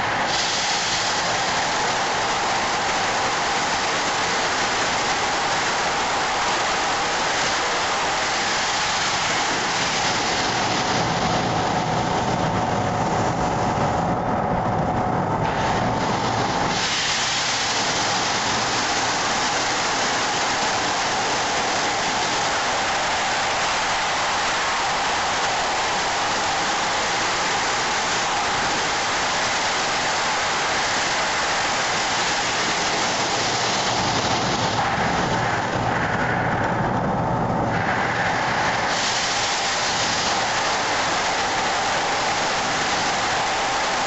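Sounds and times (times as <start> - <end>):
sandblaster hissing: 0.0 - 12.6, 15.4 - 36.5, 37.7 - 44.0.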